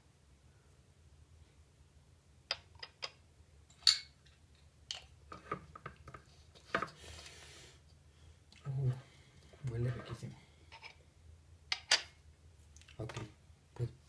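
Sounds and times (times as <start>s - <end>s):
faint soft hiss: 0.0s - 14.0s.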